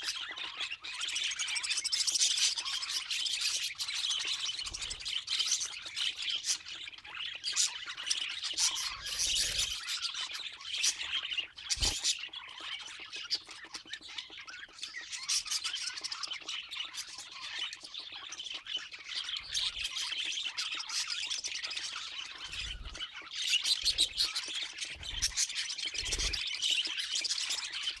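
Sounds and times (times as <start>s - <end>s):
budgerigars chattering: 0.0s - 28.0s.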